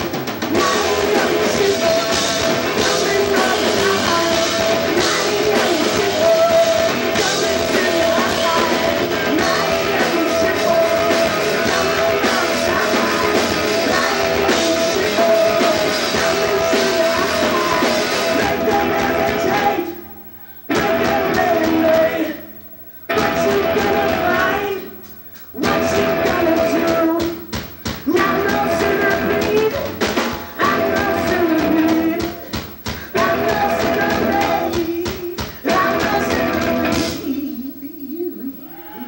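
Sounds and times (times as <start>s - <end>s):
drum kit: 0.0s - 20.0s, 20.7s - 22.3s, 23.1s - 37.4s
distorted electric guitar: 0.0s - 39.0s
person singing: 0.5s - 20.1s, 20.7s - 22.4s, 23.1s - 25.0s, 25.6s - 39.0s.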